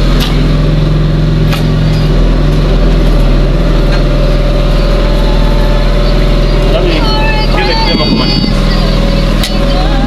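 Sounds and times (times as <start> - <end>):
motor engine running steadily: 0.0 - 10.0.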